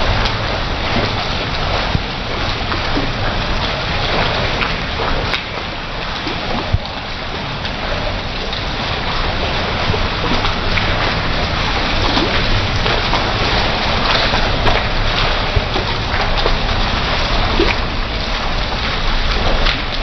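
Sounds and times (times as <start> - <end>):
heavy rain splashing on paving: 0.0 - 20.0
sharp drip ticks: 0.0 - 20.0.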